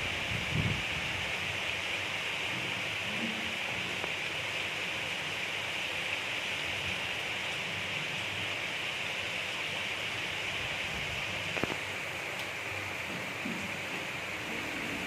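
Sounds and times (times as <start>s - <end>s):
gentle rain falling: 0.0s - 15.0s.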